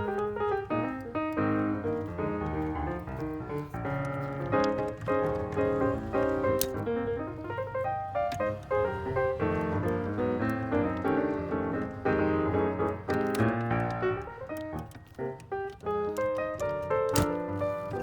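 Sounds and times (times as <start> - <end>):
background piano music: 0.0 - 18.0.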